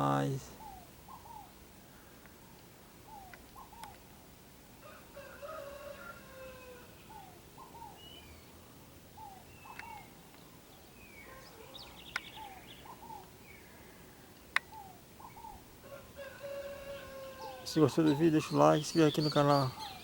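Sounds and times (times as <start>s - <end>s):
wild birds singing: 0.0s - 20.0s.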